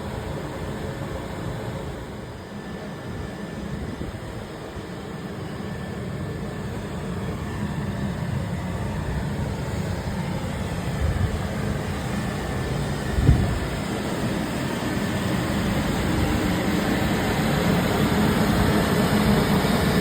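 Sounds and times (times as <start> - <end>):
freight train rumble: 0.0 - 20.0.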